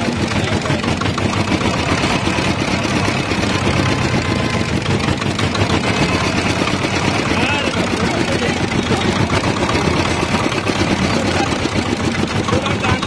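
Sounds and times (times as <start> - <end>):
juice crusher rollers clattering: 0.0 - 13.0.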